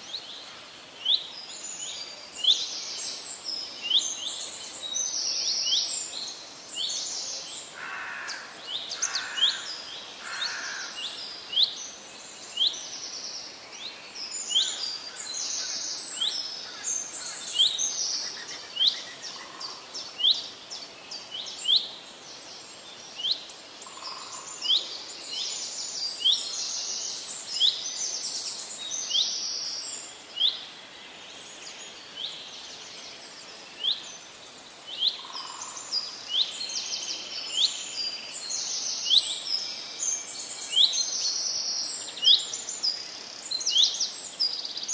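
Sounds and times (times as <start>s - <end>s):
faint hiss: 0.0s - 44.9s.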